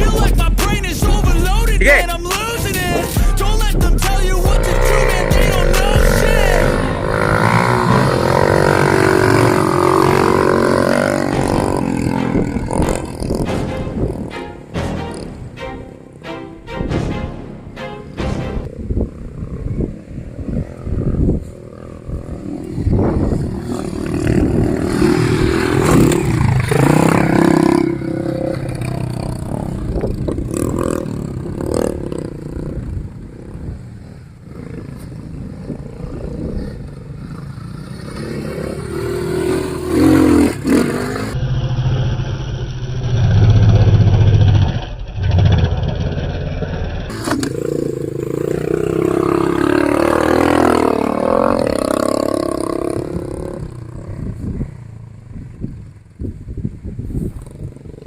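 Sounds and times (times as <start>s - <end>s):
motorcycle engine revving: 2.9s - 14.3s, 18.6s - 58.0s.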